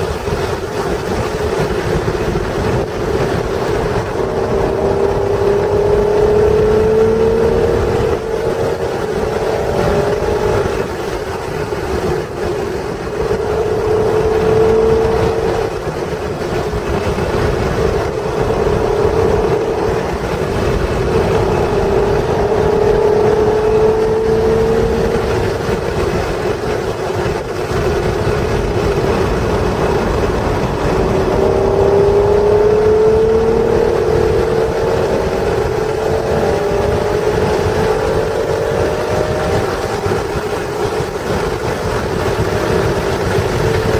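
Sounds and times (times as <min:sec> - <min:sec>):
car engine accelerating hard: 0:00.0 - 0:43.9
wind and road noise rumble: 0:00.0 - 0:43.9.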